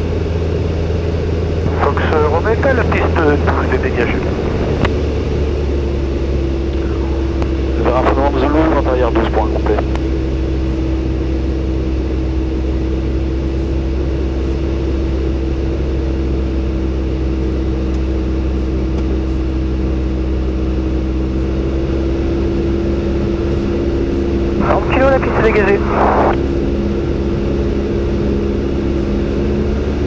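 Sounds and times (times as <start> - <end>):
light aircraft engine droning: 0.0 - 30.0.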